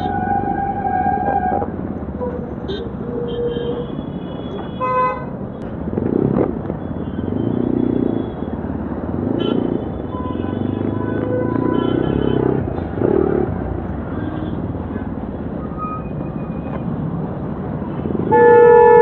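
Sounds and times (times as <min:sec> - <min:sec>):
road and traffic noise: 0:00.0 - 0:19.0.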